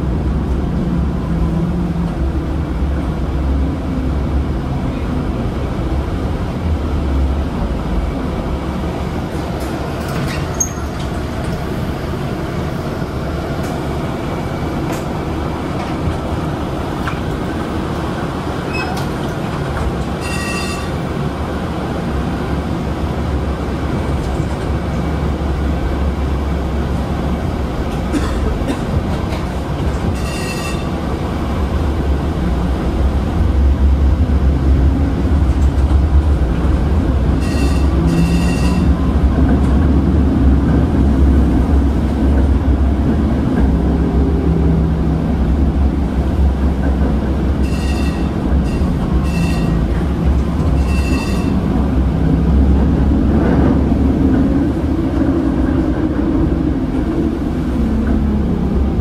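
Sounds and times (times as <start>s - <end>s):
streetcar wheels and motors rumbling: 0.0s - 59.0s.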